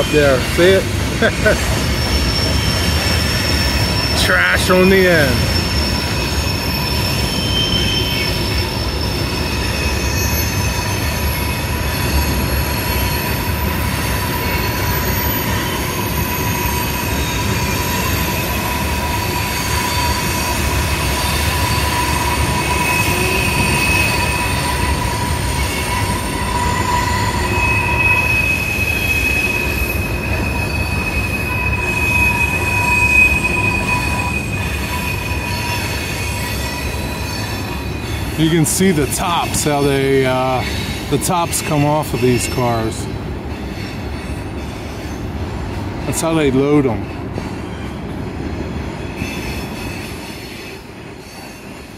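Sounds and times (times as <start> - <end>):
high wheel squeals: 0.0 - 48.2, 49.0 - 51.9
steel train wheels rumbling on rails: 0.0 - 51.9.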